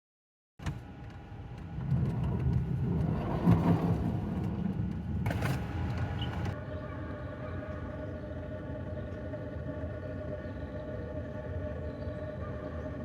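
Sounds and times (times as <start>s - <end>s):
engine low rumble: 0.6s - 13.0s.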